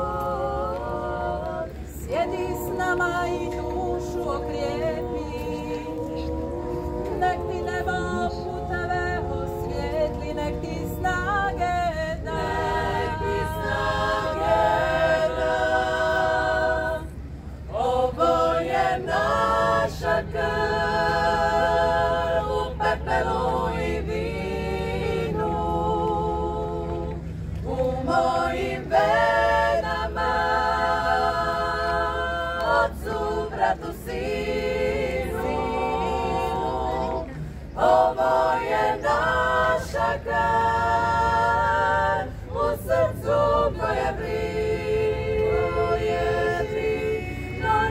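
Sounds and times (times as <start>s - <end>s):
women singing a cappella harmony: 0.0s - 47.9s.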